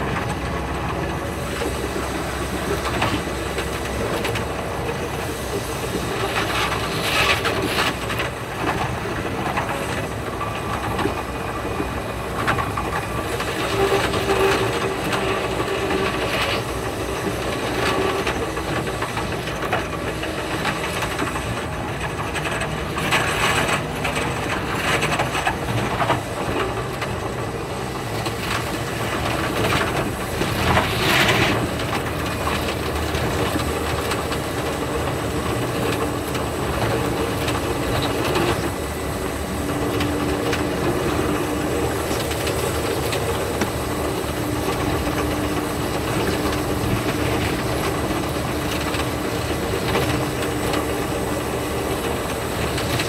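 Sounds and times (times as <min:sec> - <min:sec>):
train rumble and rush: 0:00.0 - 0:53.0
wheels clattering over rail joints: 0:00.0 - 0:53.0.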